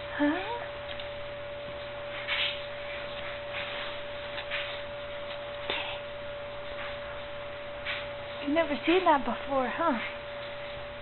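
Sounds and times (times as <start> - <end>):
high-pitched hum tone: 0.0 - 11.0.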